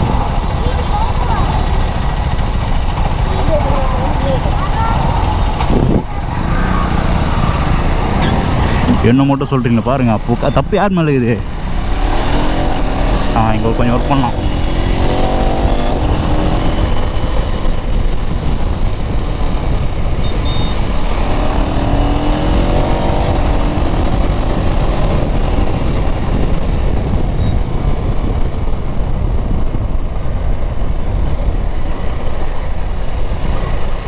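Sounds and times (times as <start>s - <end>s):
motorcycle engine rumbling: 0.0s - 34.0s.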